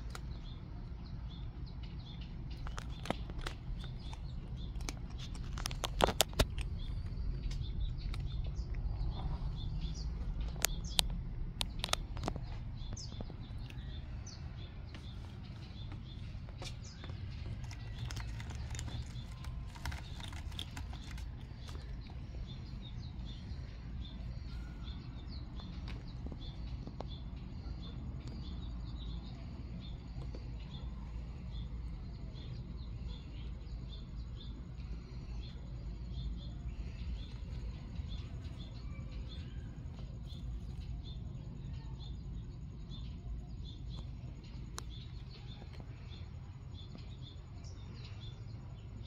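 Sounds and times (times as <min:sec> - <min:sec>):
low rumble on microphone: 0:00.0 - 0:49.0
faint high chirping: 0:06.6 - 0:49.0.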